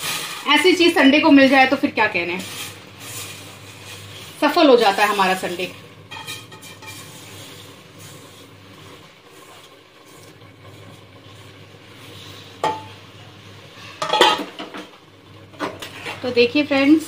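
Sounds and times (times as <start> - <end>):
water simmering: 0.0 - 17.0.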